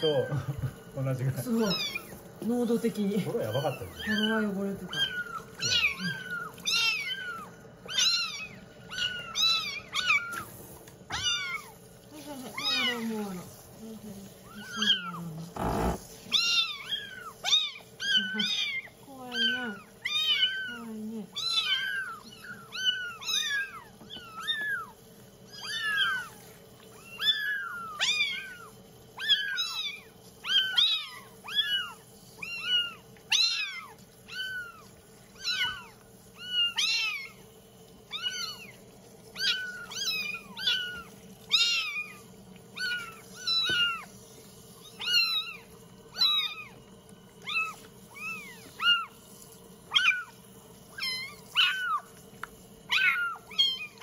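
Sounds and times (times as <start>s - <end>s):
kittens mewing: 0.0s - 2.4s, 3.2s - 10.5s, 11.1s - 13.5s, 14.4s - 44.2s, 44.8s - 46.8s, 47.4s - 49.2s, 49.8s - 52.2s, 52.8s - 54.0s.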